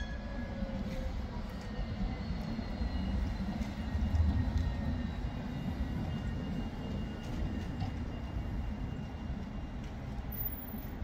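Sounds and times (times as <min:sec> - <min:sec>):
tram high whine: 0:00.0 - 0:11.0
tram rumbling: 0:00.0 - 0:11.0.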